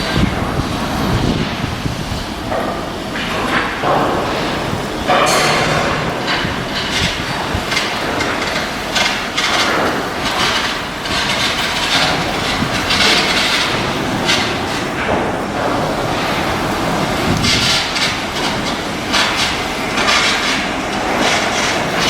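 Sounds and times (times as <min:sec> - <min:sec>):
metalworking clatter and hiss: 0:00.0 - 0:22.0.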